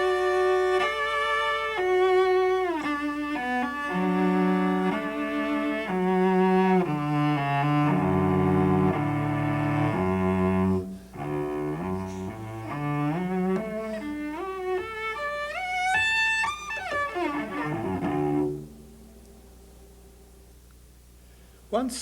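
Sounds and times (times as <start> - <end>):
solo cello playing: 0.0 - 20.3.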